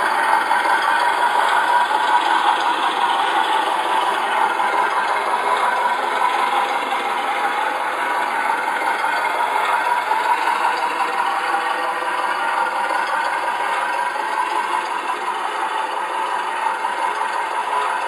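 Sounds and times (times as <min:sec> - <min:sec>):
simulated truck engine from speaker: 0:00.0 - 0:18.0.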